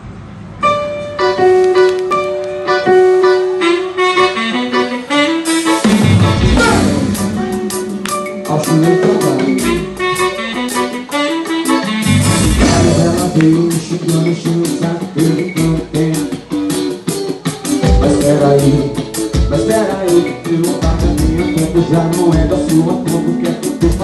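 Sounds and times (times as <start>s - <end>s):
live band playing: 0.3s - 24.0s
drum kit beat: 4.7s - 24.0s.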